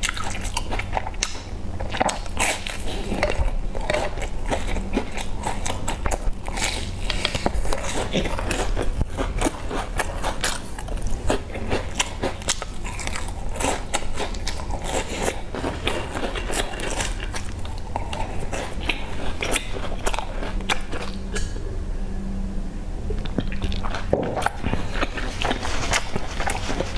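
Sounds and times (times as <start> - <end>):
chewing crisp pastry: 0.0 - 21.6, 23.1 - 26.9.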